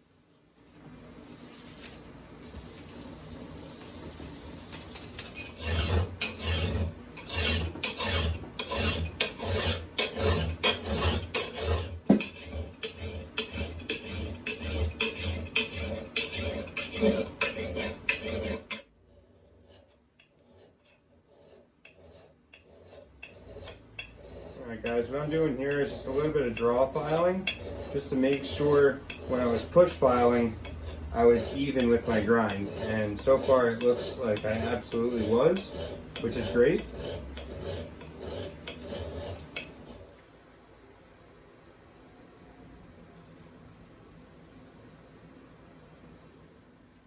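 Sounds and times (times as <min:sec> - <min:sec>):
file rasping on axe head: 0:00.3 - 0:40.1.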